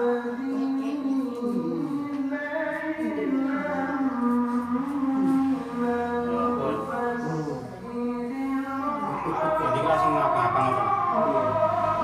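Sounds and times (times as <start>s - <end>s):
person singing long wavering notes: 0.0s - 12.0s.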